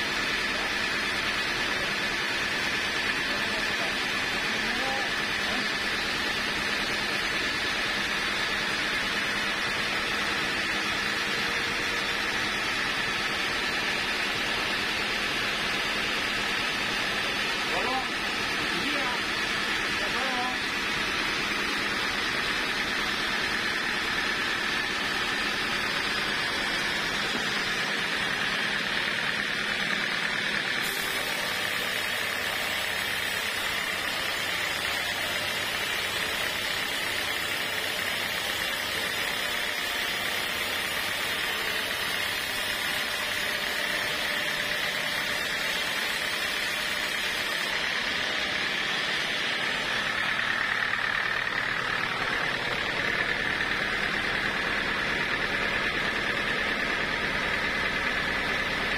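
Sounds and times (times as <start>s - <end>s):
band saw cutting wood: 0.0s - 58.9s.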